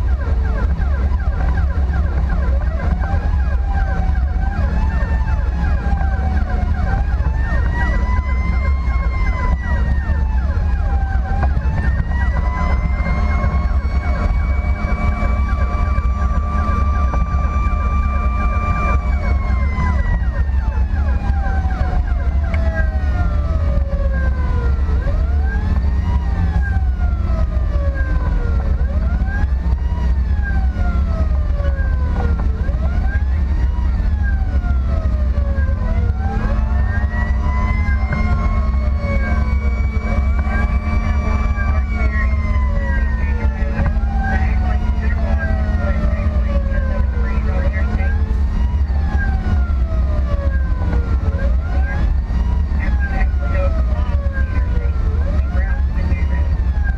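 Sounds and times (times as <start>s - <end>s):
emergency siren wailing: 0.0s - 56.9s
engine and road noise drone: 0.0s - 56.9s.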